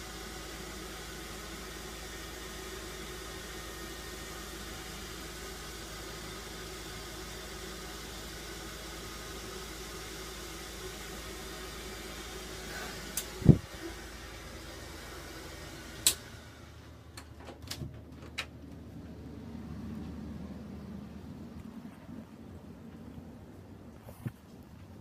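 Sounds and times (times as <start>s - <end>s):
small room fan humming: 0.0s - 25.0s.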